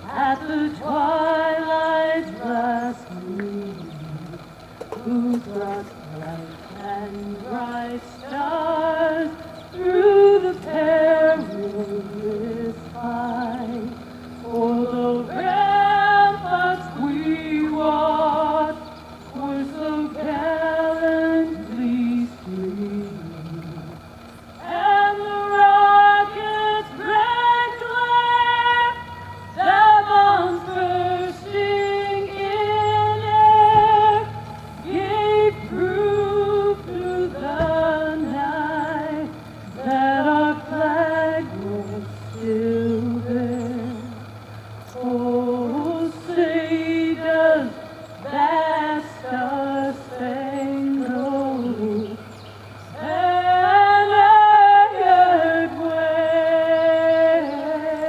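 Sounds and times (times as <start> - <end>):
steady low hum: 0.0 - 58.0
woman singing with vibrato: 0.0 - 58.0.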